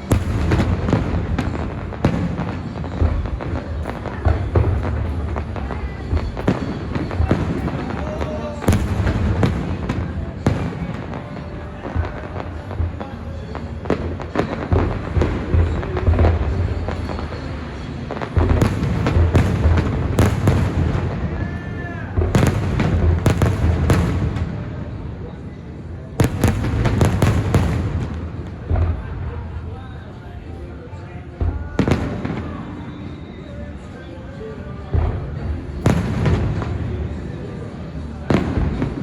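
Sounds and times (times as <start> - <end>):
fireworks bangs and booms: 0.0 - 30.2, 31.4 - 33.9, 34.9 - 39.0.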